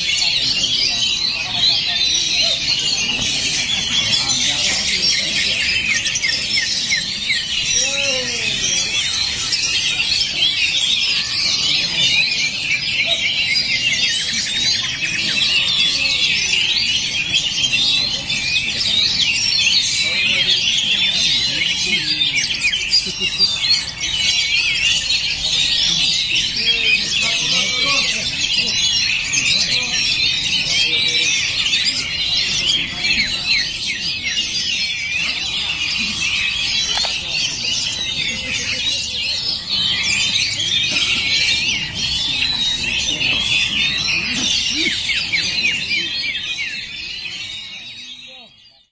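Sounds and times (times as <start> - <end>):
chorus of magpie-robins singing: 0.0 - 48.9.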